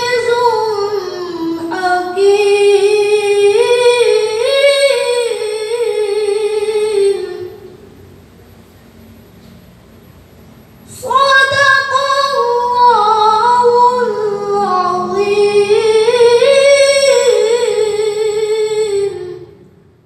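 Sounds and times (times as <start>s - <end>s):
child reciting melodically: 0.0s - 7.7s, 10.9s - 19.5s.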